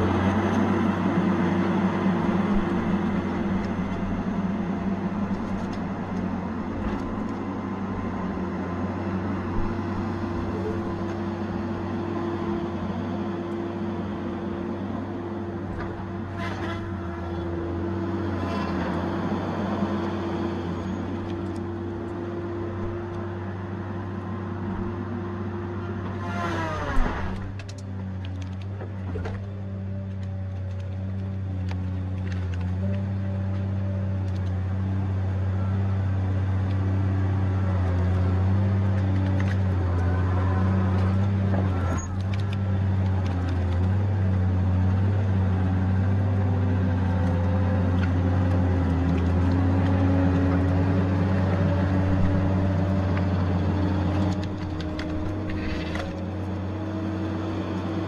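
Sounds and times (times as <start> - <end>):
engine and hydraulic drone: 0.0 - 58.0.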